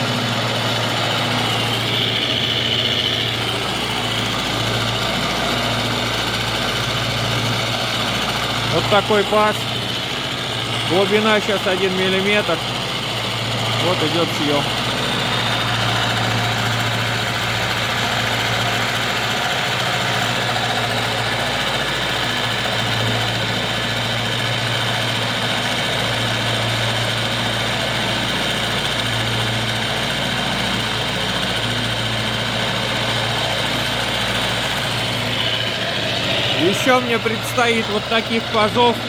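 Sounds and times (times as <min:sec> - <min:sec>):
milling machine humming: 0:00.0 - 0:39.0.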